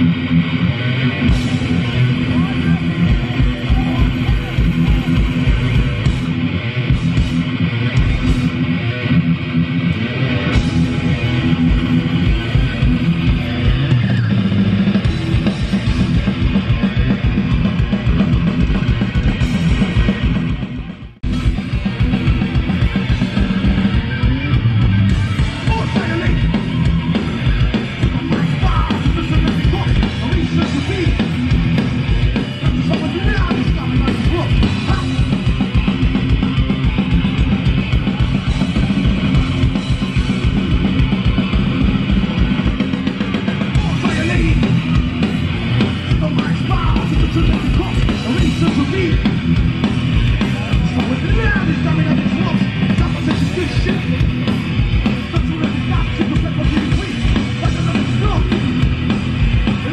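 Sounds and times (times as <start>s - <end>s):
distorted electric guitars: 0.0s - 59.9s
fast drumming on drum kit: 1.2s - 8.7s, 10.5s - 59.9s.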